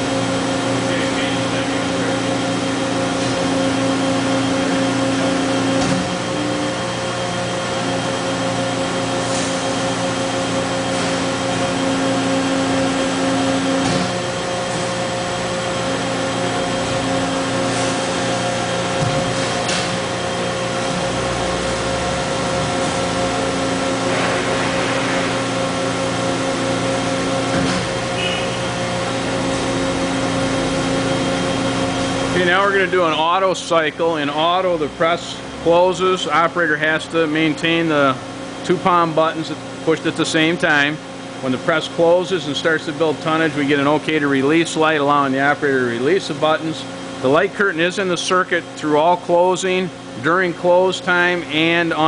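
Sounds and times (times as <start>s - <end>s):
hydraulic pump humming: 0.0s - 52.0s.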